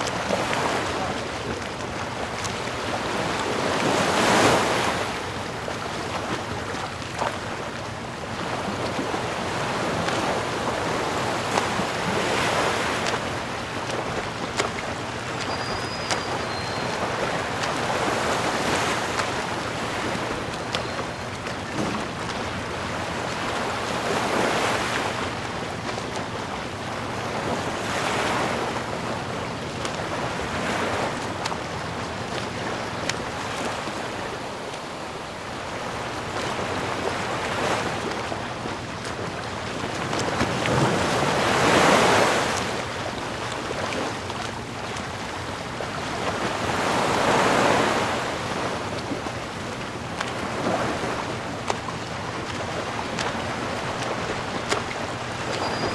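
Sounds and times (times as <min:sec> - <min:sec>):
sea waves washing onto shore: 0:00.0 - 0:55.9.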